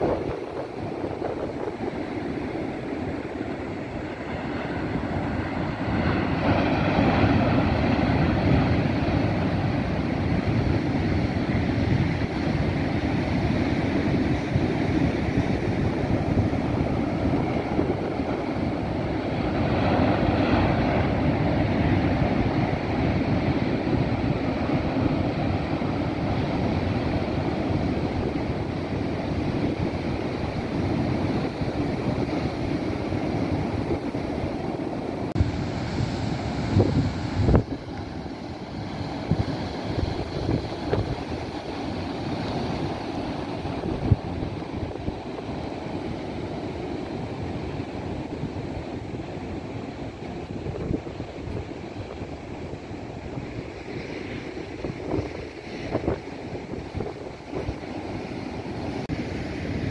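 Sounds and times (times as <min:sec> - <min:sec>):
waves crashing on rocky shore: 0:00.0 - 0:59.9.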